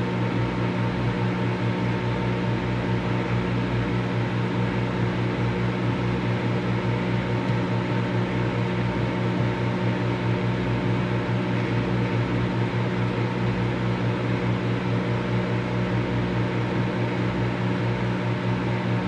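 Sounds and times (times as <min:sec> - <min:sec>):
microwave oven running: 0:00.0 - 0:19.0.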